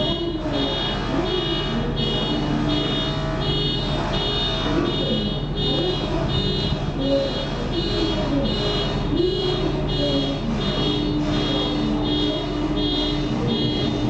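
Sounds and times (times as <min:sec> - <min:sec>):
electronic warning buzzer beeping: 0:00.0 - 0:14.0
low hum of ship engine: 0:00.0 - 0:14.0.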